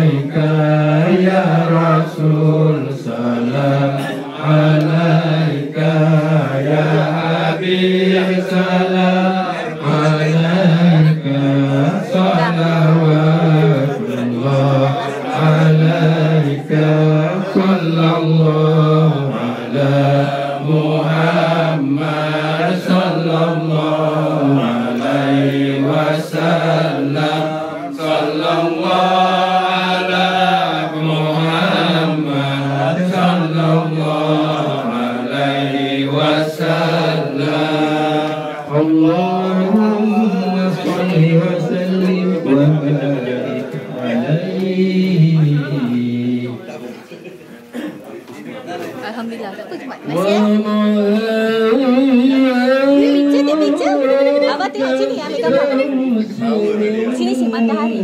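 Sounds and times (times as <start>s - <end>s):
voices chanting slow melody: 0.0s - 46.8s.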